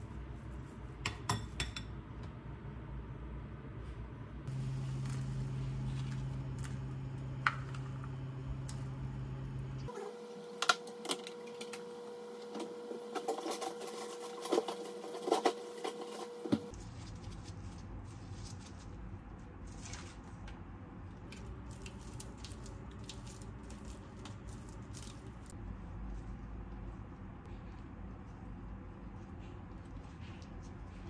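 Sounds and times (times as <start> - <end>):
cooktop hum: 0.0 - 31.0.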